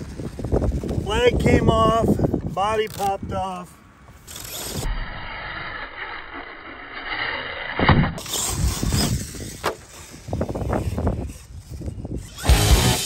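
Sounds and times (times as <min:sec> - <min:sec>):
rc truck running on concrete: 0:00.0 - 0:03.0, 0:04.0 - 0:13.0.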